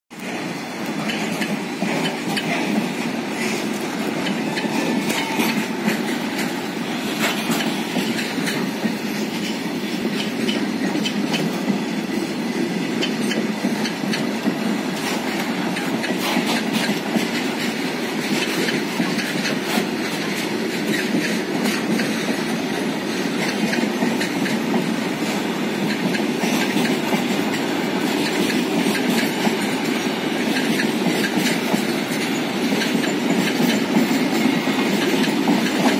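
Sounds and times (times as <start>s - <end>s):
clickety-clack of wheels on rail joints: 0.1s - 35.9s
steel wheels rumbling on rails: 0.1s - 35.9s.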